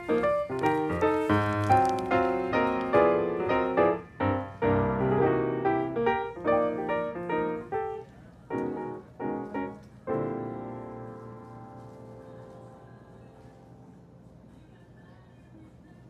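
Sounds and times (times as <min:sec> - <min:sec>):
piano melody: 0:00.0 - 0:14.2.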